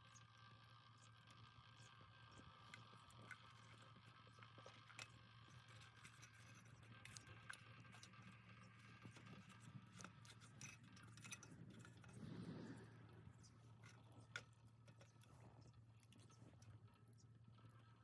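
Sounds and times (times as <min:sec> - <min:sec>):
low hum: 0:00.0 - 0:18.0
small wood fire crackling: 0:01.0 - 0:18.0.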